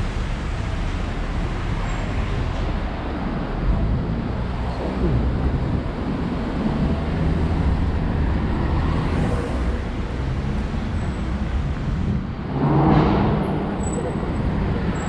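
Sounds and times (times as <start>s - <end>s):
passing cars and vans: 0.0s - 15.0s.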